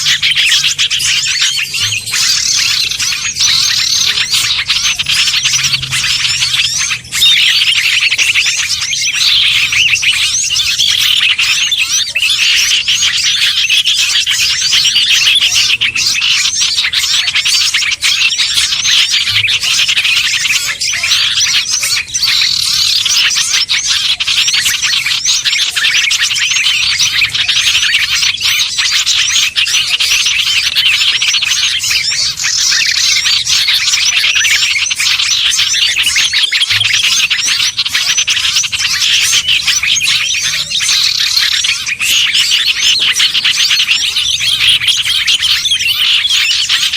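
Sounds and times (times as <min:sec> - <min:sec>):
songbirds chirping and twittering: 0:00.0 - 0:46.9.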